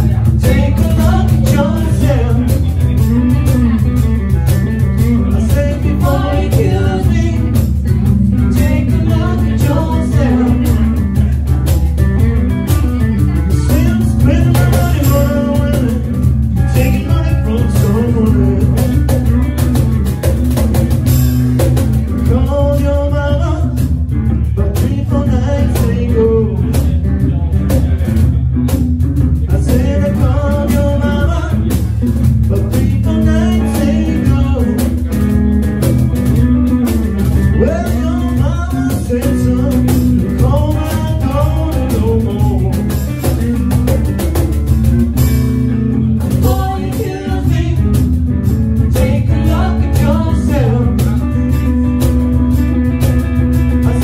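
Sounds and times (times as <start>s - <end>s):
man singing into microphone: 0.0s - 11.6s, 13.3s - 19.7s, 22.1s - 27.8s, 29.4s - 35.5s, 37.3s - 44.5s, 45.9s - 52.2s, 53.7s - 54.0s
cajon percussion: 0.0s - 54.0s
electric guitar: 0.0s - 54.0s.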